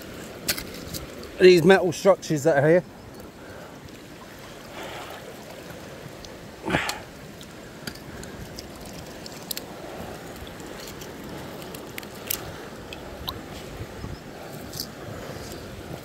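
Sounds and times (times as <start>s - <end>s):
river water rushing over rapids: 0.0s - 16.0s.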